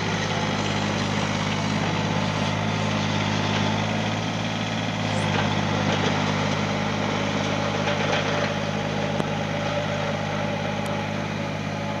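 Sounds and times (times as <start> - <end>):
mini excavator diesel engine idling: 0.0 - 12.0.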